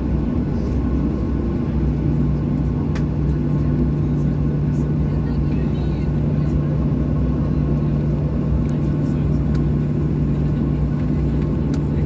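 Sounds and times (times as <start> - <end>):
jet cabin drone: 0.0 - 12.0.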